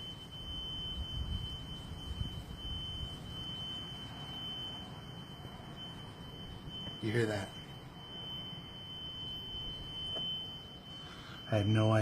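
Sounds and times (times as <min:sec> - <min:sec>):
steady high-pitched tone: 0:00.0 - 0:12.0.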